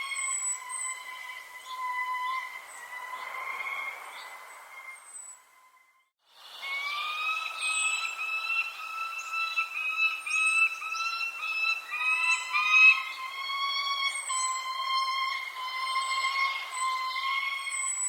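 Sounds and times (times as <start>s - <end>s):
bird whistling repeated notes: 0.0s - 5.6s, 6.5s - 18.0s.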